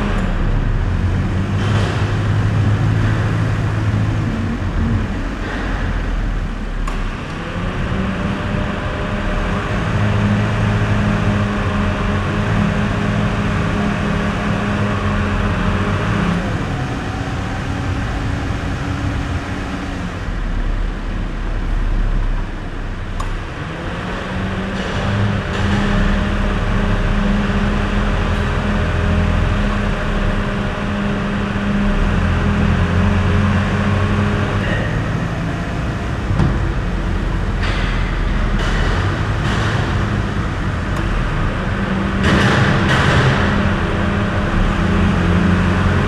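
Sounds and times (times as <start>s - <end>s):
car engine while driving: 0.0s - 46.0s.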